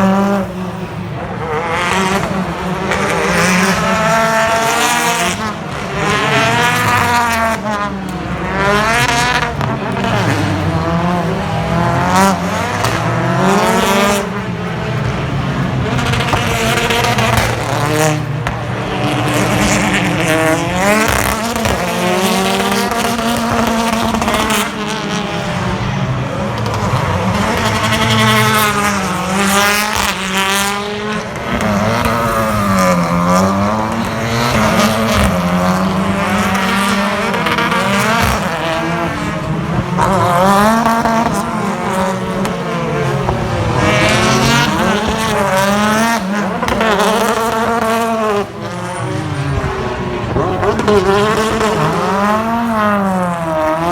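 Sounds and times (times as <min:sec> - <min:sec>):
racing car engines revving: 0:00.0 - 0:53.9.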